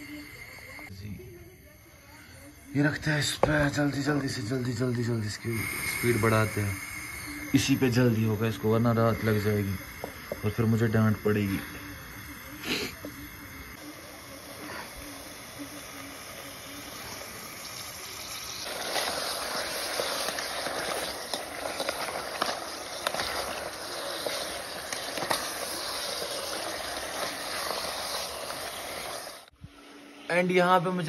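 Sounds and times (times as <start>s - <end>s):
meat sizzling in a pot: 1.5s - 30.2s.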